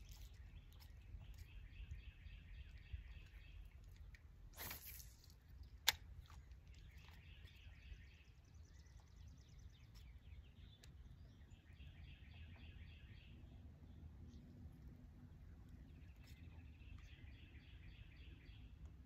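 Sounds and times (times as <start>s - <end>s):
birds chirping and trilling: 0.0s - 4.1s, 6.5s - 19.0s.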